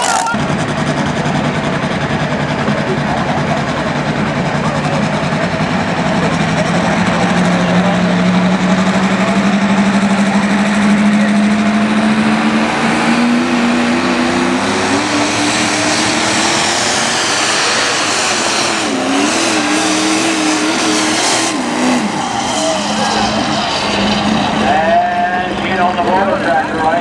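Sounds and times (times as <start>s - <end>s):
tractor engine under load: 0.0s - 27.0s.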